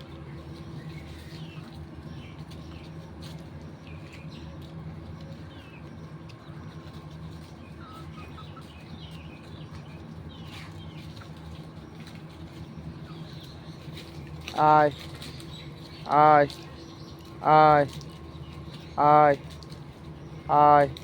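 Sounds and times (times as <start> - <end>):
chickens peeping: 0.0 - 21.0
steady low hum: 0.0 - 21.0.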